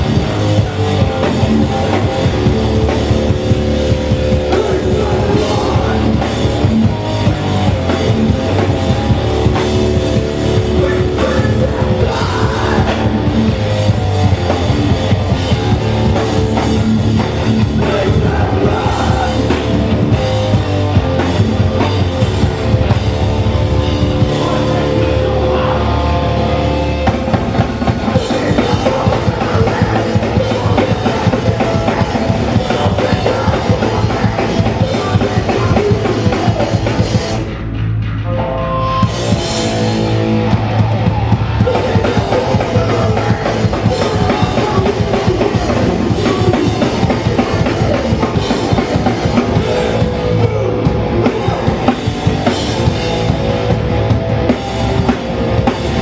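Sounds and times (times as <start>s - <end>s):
pounding drum kit: 0.0s - 38.2s, 38.8s - 56.0s
bass guitar: 0.0s - 56.0s
distorted electric guitars: 0.0s - 56.0s.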